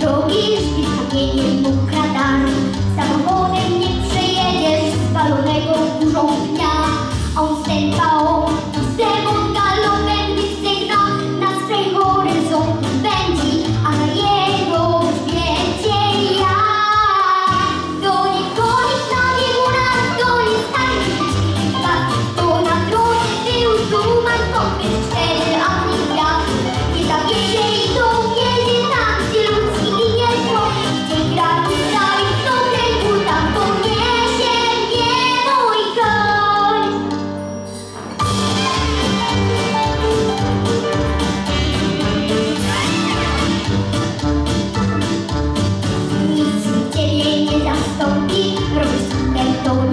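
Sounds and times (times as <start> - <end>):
girl singing into microphone: 0.0 - 37.1, 46.2 - 49.9
pop backing music with bass: 0.0 - 49.9.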